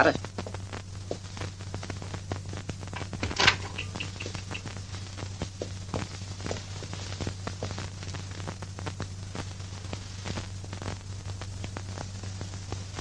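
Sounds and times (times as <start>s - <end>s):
faint crackles: 0.0s - 13.0s
film soundtrack hiss: 0.0s - 13.0s
low mains hum: 0.0s - 13.0s.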